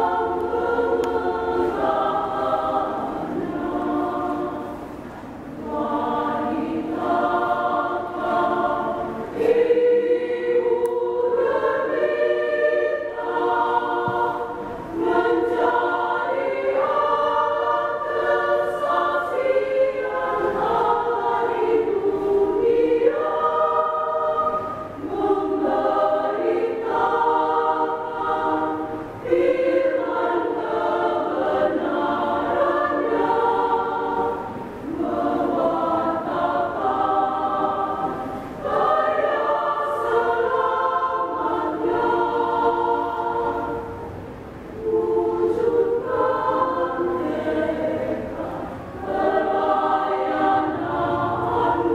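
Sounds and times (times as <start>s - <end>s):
women's choir singing a hymn: 0.0s - 51.9s.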